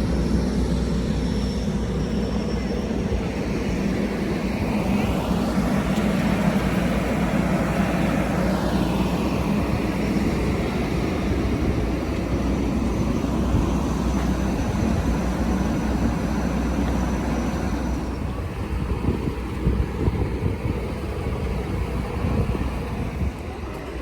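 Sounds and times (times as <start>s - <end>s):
aircraft engine rumble and whine: 0.0s - 24.0s.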